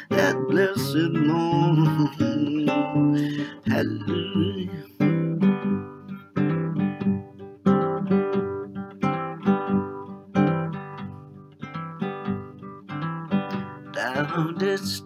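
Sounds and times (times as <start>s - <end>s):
acoustic guitar hymn chords: 0.0s - 15.0s.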